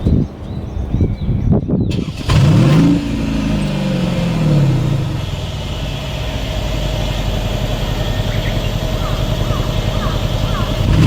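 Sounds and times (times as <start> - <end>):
car exhaust idling: 1.9 - 11.0.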